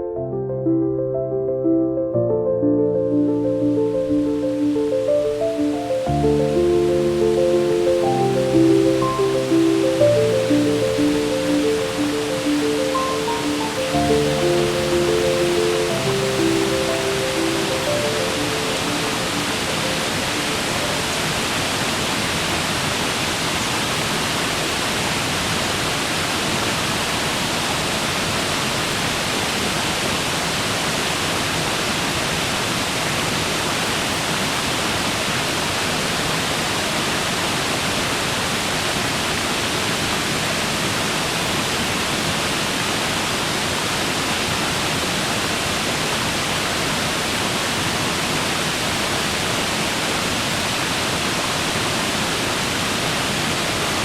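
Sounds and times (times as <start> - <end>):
waterfall rushing: 3.0 - 54.0.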